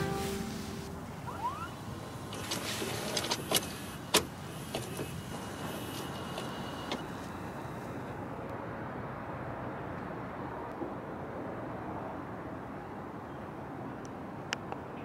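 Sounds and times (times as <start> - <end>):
distant city traffic hum: 0.0 - 15.0.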